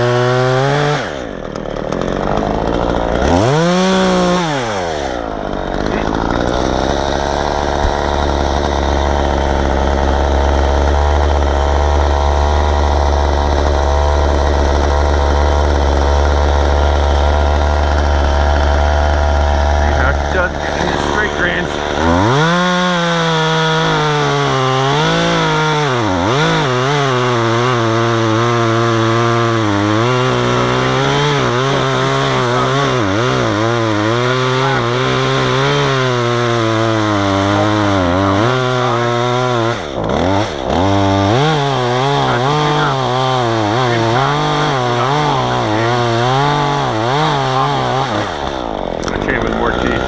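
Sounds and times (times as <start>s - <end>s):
chainsaw cutting log: 0.0s - 50.0s.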